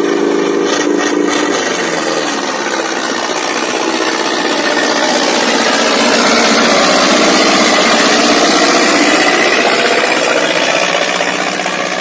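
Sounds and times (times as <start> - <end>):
steady pitched note: 0.0 - 12.0
tractor engine running hard: 0.0 - 12.0.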